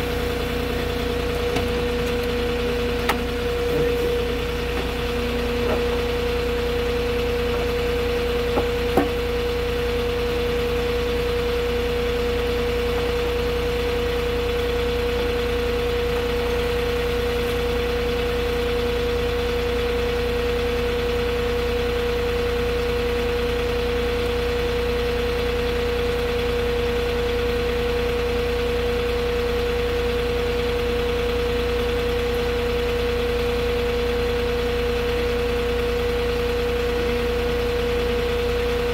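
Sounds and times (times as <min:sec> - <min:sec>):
forklift engine running: 0:00.0 - 0:38.9.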